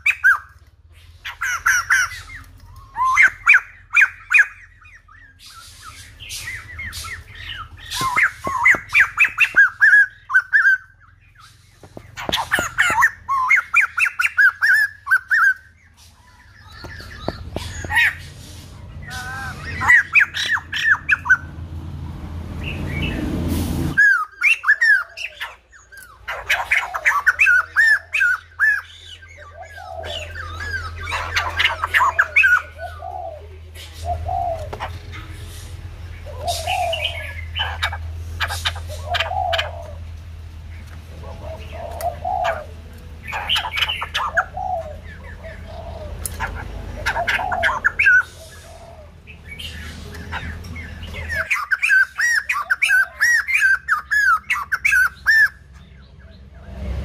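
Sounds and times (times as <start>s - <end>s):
bird chattering calls: 0.0s - 21.6s, 24.0s - 56.3s
bird hooting notes: 0.0s - 21.6s, 24.0s - 55.7s.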